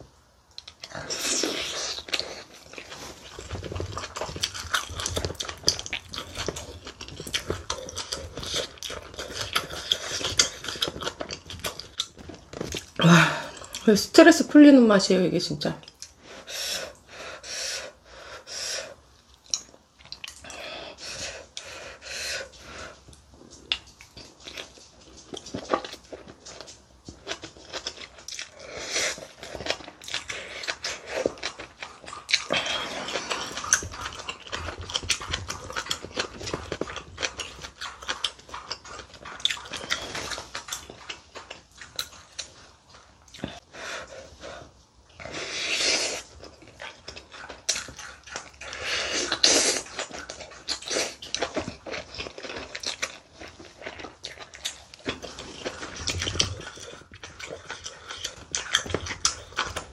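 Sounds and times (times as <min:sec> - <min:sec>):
wet chewing sounds: 0:00.0 - 0:14.8, 0:15.7 - 0:59.9.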